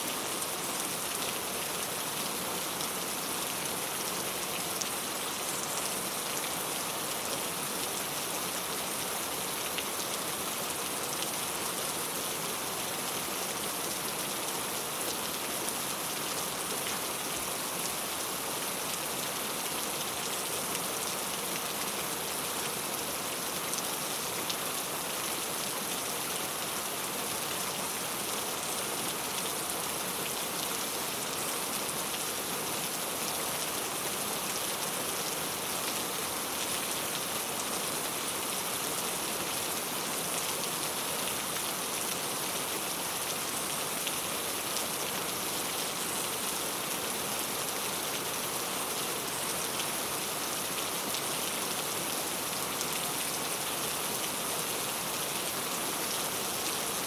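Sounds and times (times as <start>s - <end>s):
rain falling on a tile roof: 0.0s - 57.0s.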